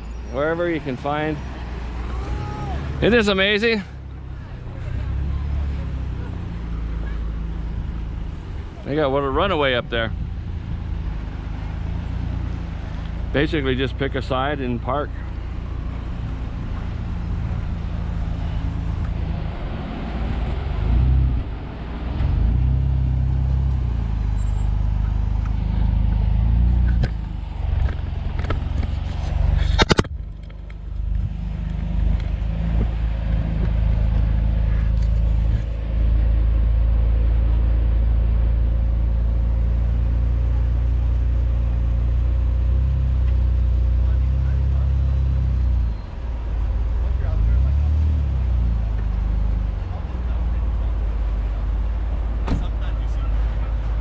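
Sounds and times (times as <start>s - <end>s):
car engine running at low speed: 0.0s - 54.0s.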